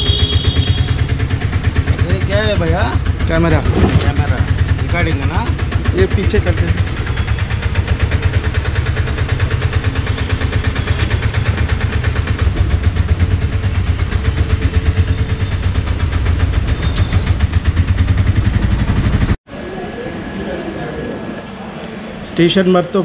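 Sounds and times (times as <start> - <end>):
small engine idling: 0.0 - 19.4.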